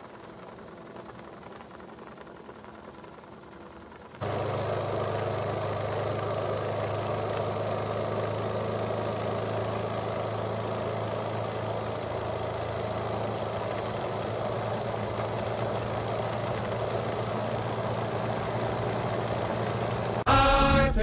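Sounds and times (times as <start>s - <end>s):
small steam engine running: 0.0s - 20.3s.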